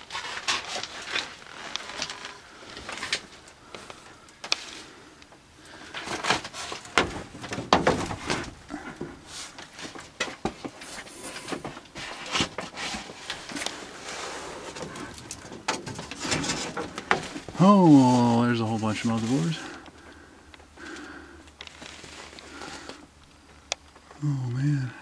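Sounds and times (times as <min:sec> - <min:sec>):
handling clicks and rustles: 0:00.0 - 0:24.2.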